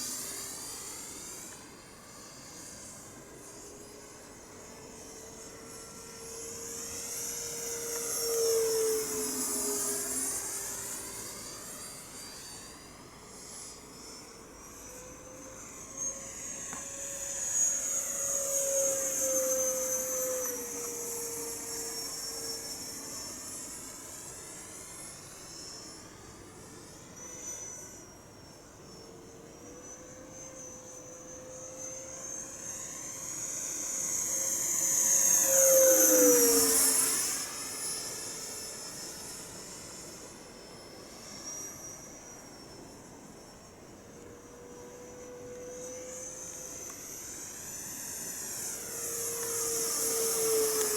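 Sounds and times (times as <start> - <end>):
model jet whine flying past: 0.0 - 50.9.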